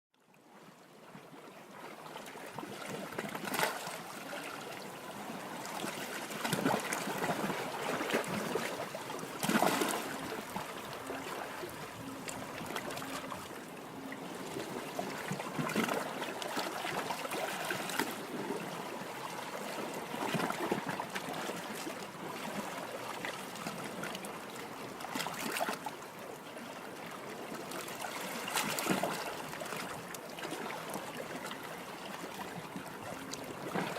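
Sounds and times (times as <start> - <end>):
water rushing along boat hull: 1.2 - 33.9.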